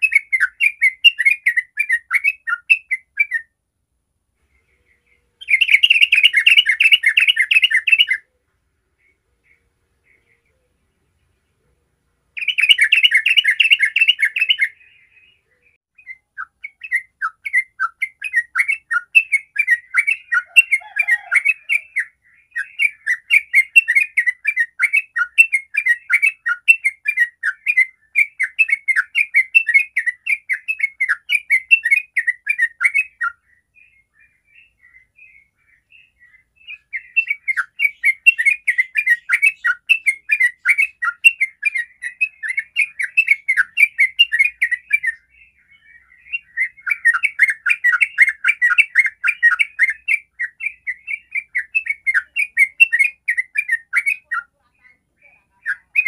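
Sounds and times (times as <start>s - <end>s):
bird singing rapid chattering song: 0.0s - 3.5s, 4.4s - 56.0s.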